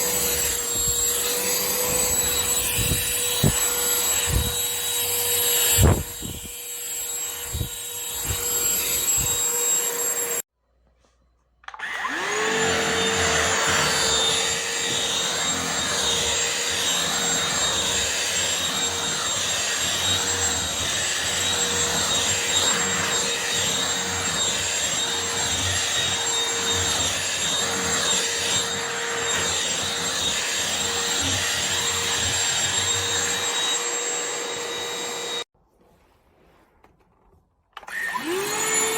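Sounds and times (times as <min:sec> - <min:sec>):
handheld vacuum cleaner whine: 0:00.0 - 0:10.5, 0:11.6 - 0:35.5, 0:37.8 - 0:38.9.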